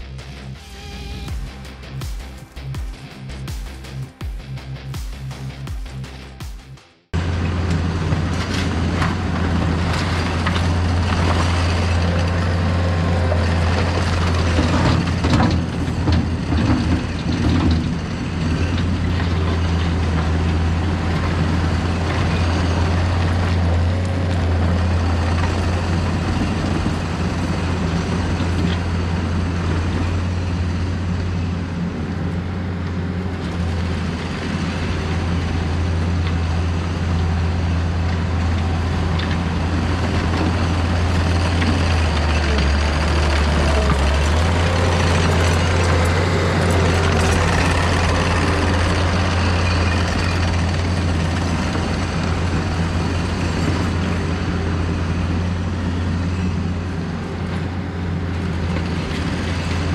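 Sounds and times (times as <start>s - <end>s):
diesel engine running: 0.0s - 59.9s
loader clatter: 7.2s - 59.9s.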